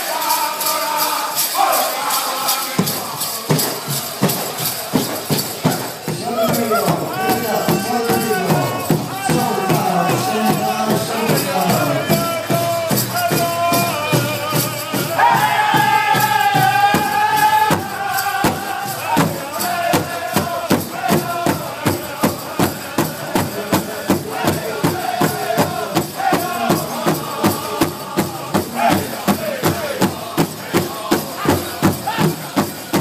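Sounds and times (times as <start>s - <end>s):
men singing high: 0.0s - 33.0s
large drum beating: 2.8s - 33.0s.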